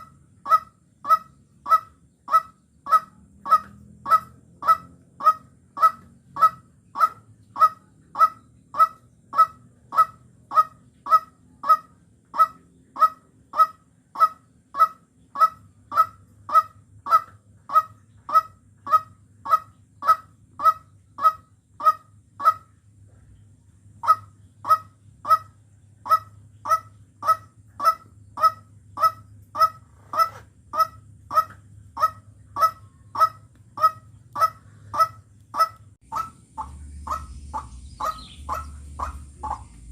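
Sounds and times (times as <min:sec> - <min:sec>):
waterhen repeated call: 0:00.0 - 0:22.8, 0:24.0 - 0:39.9.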